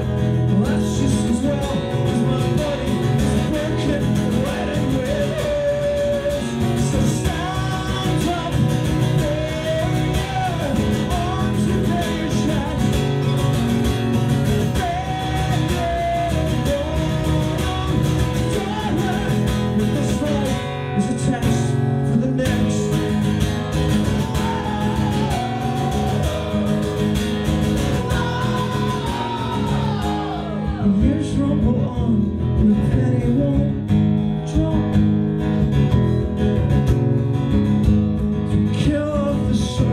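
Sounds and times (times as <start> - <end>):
man singing: 0.0 - 35.1, 38.5 - 39.9
strummed acoustic guitar: 0.0 - 39.9.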